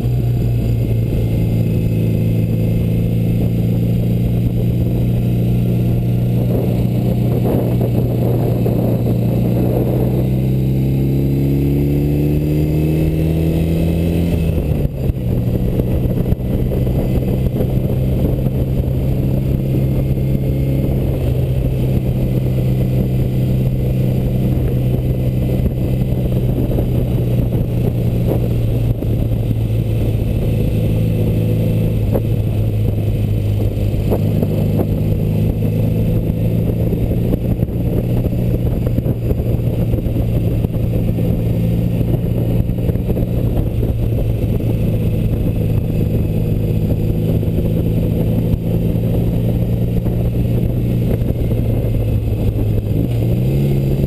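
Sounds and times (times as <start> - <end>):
motorcycle engine running: 0.0 - 54.0
road noise: 0.0 - 54.0
wind noise: 0.0 - 54.0.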